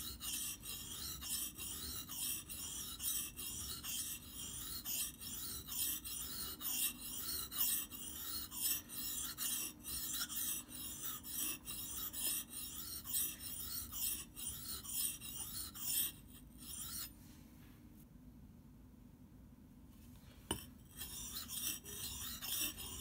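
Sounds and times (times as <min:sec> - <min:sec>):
axe blade scraping on whetstone: 0:00.0 - 0:17.1, 0:20.5 - 0:23.0.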